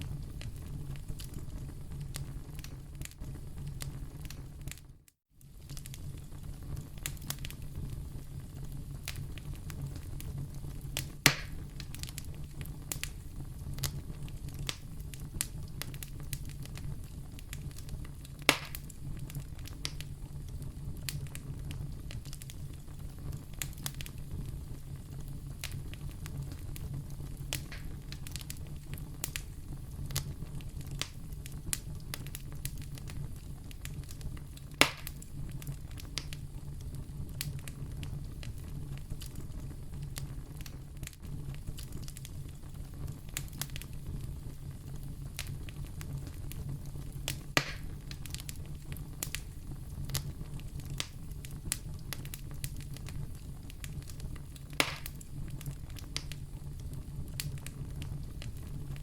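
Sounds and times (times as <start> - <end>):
fire crackling and popping: 0.0 - 59.0
fire flames rumbling: 0.0 - 59.0.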